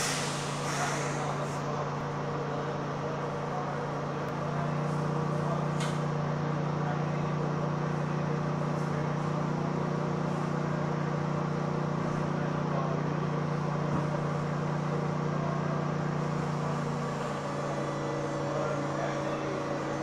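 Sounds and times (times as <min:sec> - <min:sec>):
commuter train running: 0:00.0 - 0:20.0.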